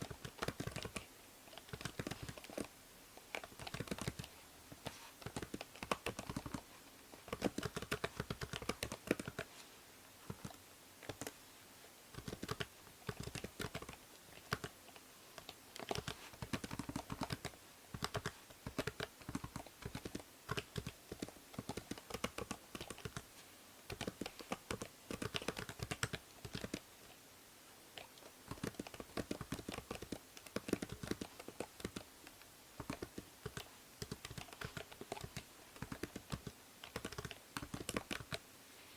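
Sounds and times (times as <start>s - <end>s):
keyboard typing: 0.0s - 2.7s, 3.3s - 9.5s, 10.3s - 11.4s, 12.2s - 23.3s, 23.9s - 26.9s, 28.0s - 38.4s
faint microphone hiss: 0.0s - 38.9s.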